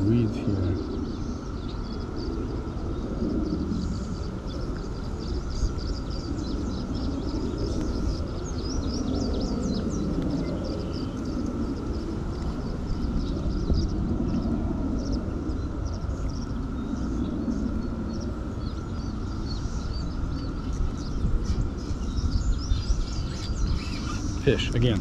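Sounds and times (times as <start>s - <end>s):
faint hum: 0.0s - 25.0s
small birds chirping: 0.0s - 25.0s.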